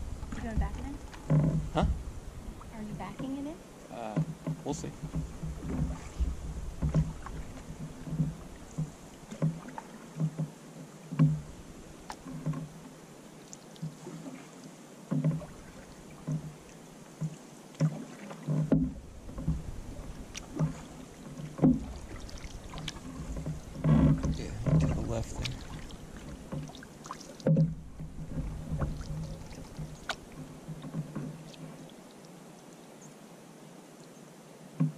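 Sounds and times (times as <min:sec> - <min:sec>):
paddle knocking against hull: 0:00.0 - 0:13.0, 0:15.1 - 0:31.9
paddles pulling through water: 0:00.0 - 0:34.9.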